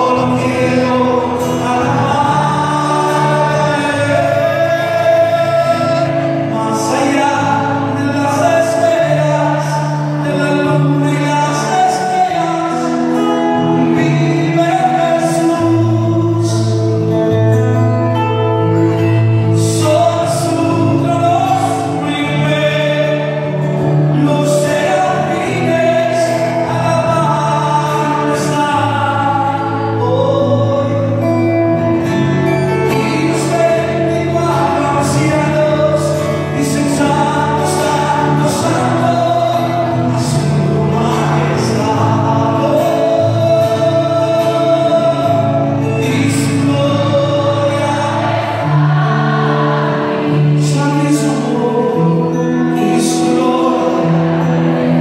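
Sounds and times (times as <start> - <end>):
amplified instruments: 0.0 - 55.0
man singing: 0.0 - 55.0.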